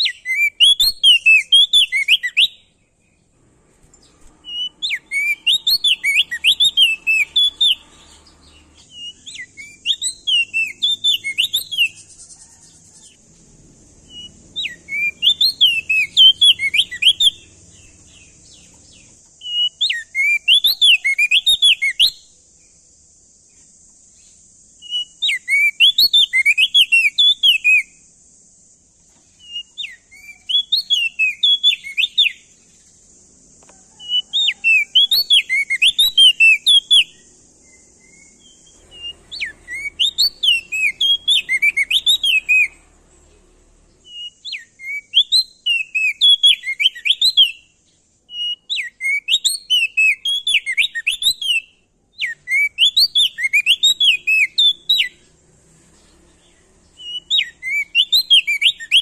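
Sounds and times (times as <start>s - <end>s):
bird singing whistled notes: 0.0s - 13.2s, 13.8s - 28.2s, 29.1s - 59.0s
faint high hiss: 0.0s - 59.0s.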